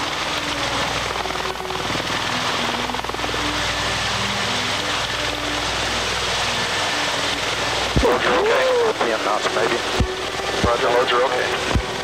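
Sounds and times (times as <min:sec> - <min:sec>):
tiltrotor aircraft hovering drone: 0:00.0 - 0:12.0.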